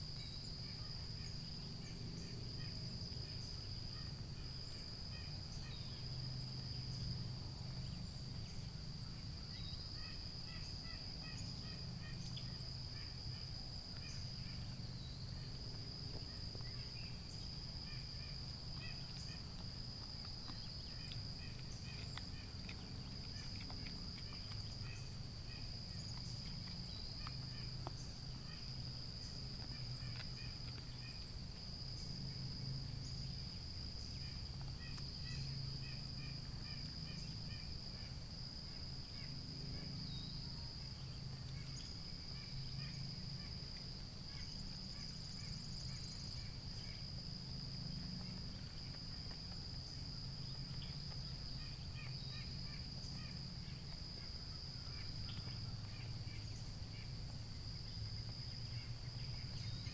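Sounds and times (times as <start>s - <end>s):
low steady hum: 0.0s - 59.9s
short insect chirps: 0.0s - 59.9s.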